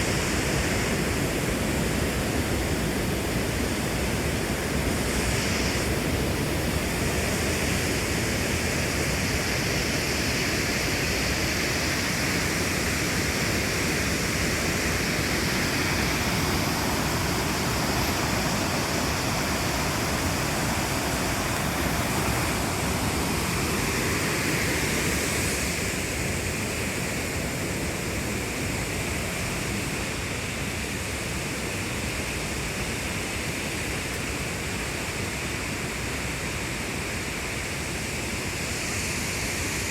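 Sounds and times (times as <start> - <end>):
cascading water rushing: 0.0 - 39.9.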